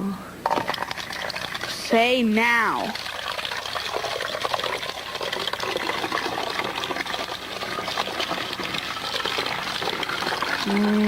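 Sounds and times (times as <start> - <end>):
water pouring into a bottle: 0.4 - 11.0.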